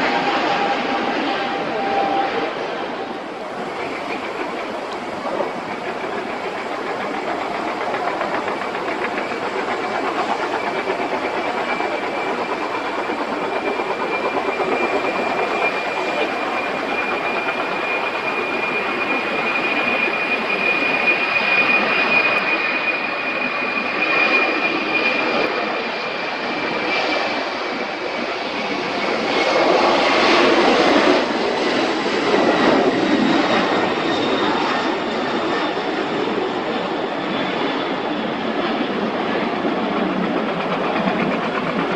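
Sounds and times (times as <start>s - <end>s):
jet engines roaring: 0.0s - 41.9s
steady high whine: 0.0s - 41.9s.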